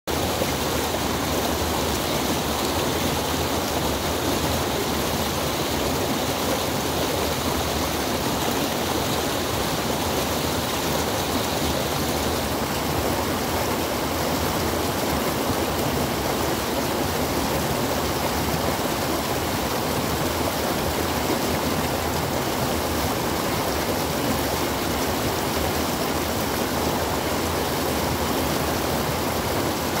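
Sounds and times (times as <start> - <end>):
creek rushing over boulders: 0.1 - 30.0.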